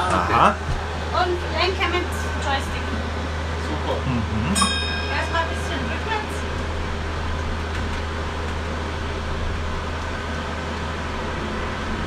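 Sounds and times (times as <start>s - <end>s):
air conditioning running: 0.0s - 12.0s
electric bus cabin hum: 0.0s - 12.0s.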